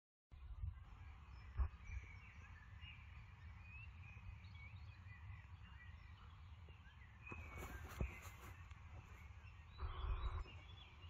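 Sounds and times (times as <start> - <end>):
birds chirping: 0.3 - 11.0.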